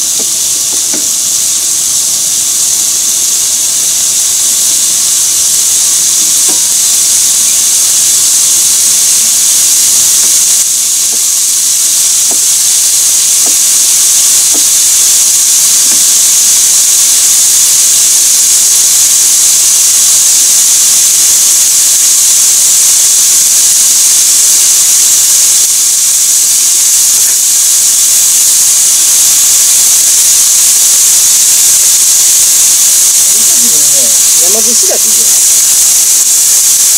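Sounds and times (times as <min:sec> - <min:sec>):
chicken sizzling in a frying pan: 0:00.0 - 0:36.9.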